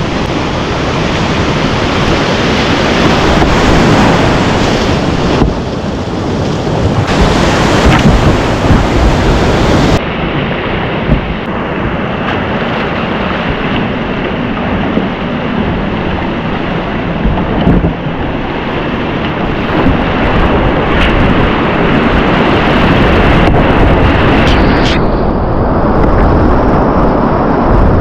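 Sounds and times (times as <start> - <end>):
rushing river whitewater: 0.0 - 25.0
wind buffeting microphone: 0.0 - 28.0.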